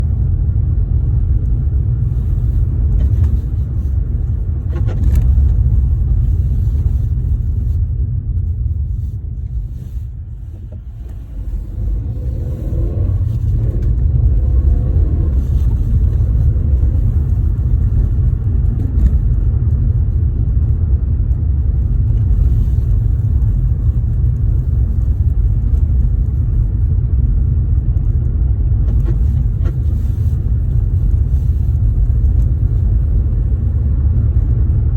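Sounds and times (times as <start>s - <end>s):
road rumble from moving car: 0.0s - 34.9s.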